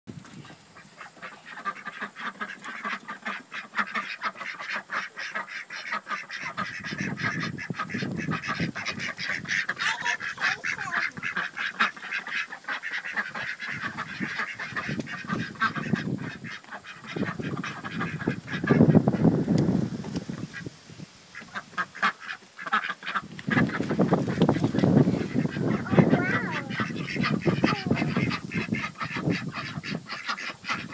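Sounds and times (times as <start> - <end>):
ducks quacking: 0.3 - 19.6, 20.2 - 20.7, 21.3 - 30.9.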